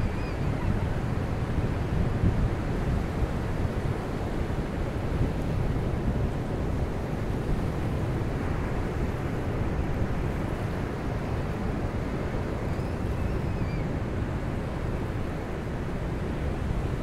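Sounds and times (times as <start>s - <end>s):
surf washing up beach: 0.0s - 17.0s
wind rumble on microphone: 0.0s - 17.0s.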